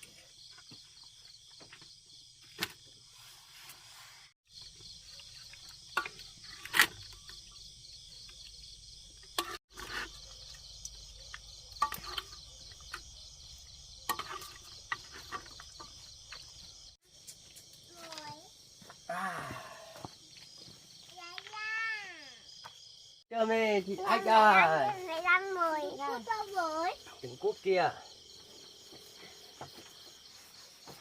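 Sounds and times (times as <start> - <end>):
insects trilling: 4.5 - 31.0.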